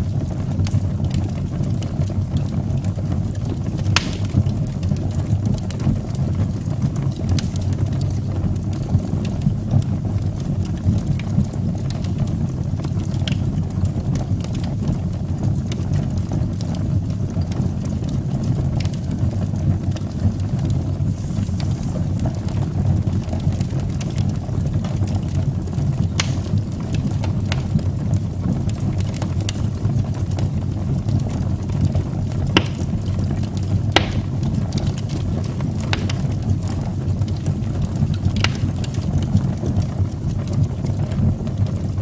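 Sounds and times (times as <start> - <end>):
fire burning in fireplace: 0.0 - 42.0
fire crackling and popping: 0.0 - 42.0.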